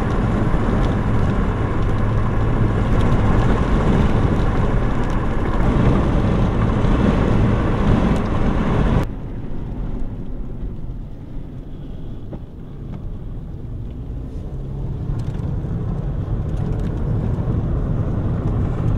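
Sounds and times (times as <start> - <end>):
vehicle cabin rumble: 0.0 - 18.9.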